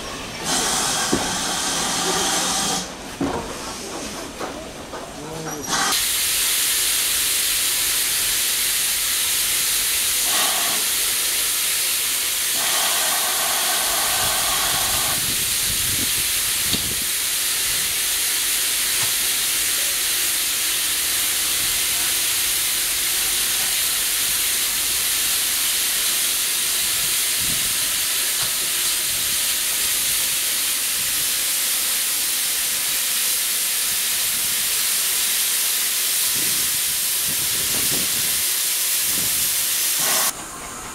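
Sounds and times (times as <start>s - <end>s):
steam hissing: 0.0s - 3.0s, 5.5s - 40.9s.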